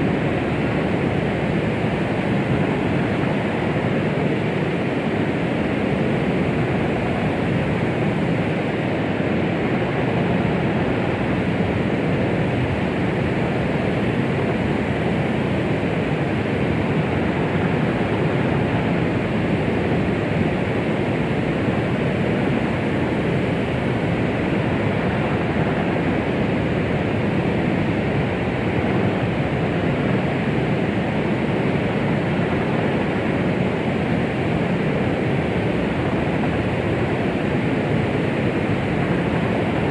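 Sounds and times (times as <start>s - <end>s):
muffled rushing white noise: 0.0s - 39.9s.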